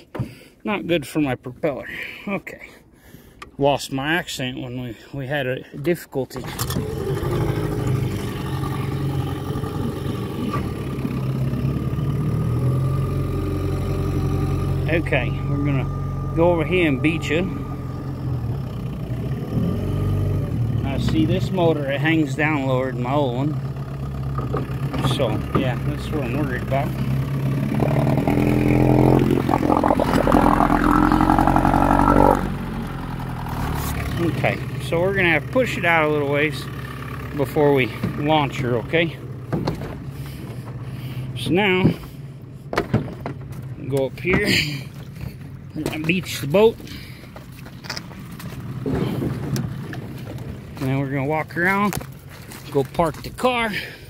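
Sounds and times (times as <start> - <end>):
outboard motor running: 6.4 - 54.0.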